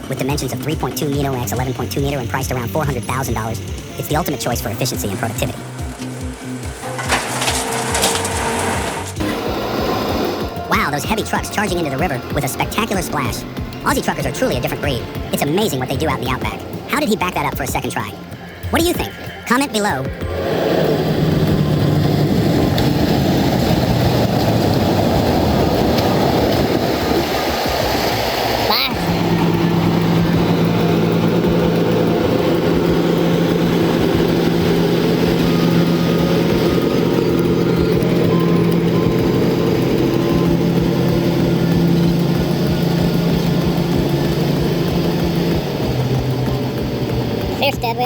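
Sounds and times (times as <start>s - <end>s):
heavy truck engine running: 0.0s - 48.0s.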